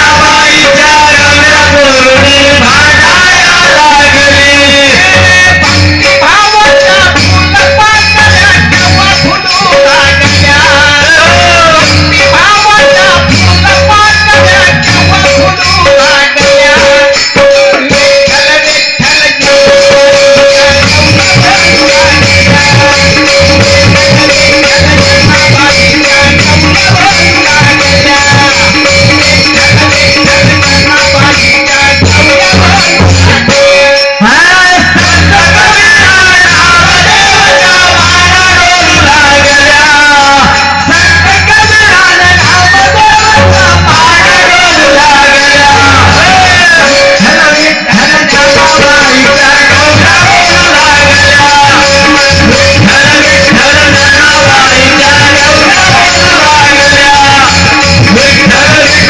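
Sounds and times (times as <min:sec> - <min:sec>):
instrumental music with steady beat: 0:00.0 - 0:59.0
percussion: 0:00.0 - 0:59.0
person singing: 0:00.0 - 0:59.0
wavering melody: 0:00.0 - 0:59.0.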